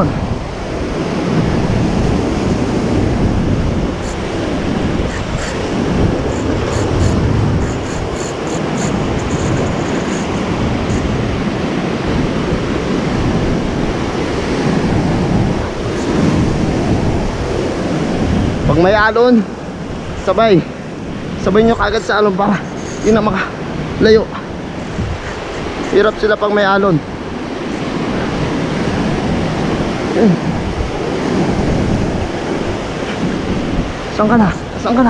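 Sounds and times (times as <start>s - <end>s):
surf on rocky shore: 0.0s - 35.0s
wind buffeting microphone: 0.0s - 35.0s.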